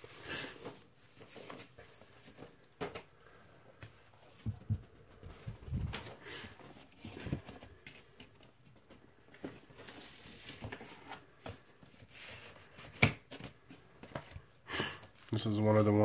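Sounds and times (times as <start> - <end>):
record sleeves rustling: 0.0 - 4.4, 5.2 - 14.5.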